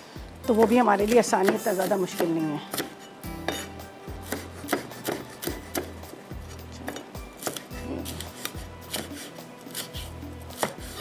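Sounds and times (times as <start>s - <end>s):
knife chopping on wooden board: 0.6s - 6.2s, 6.8s - 11.0s.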